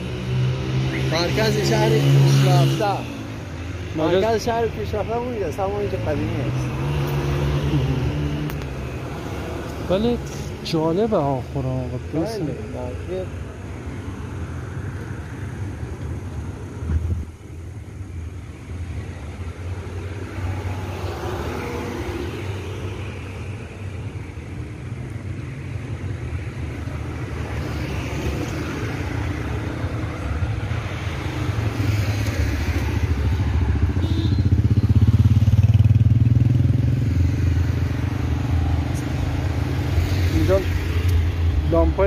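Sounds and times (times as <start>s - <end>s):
motor vehicle rumble: 0.0s - 42.0s.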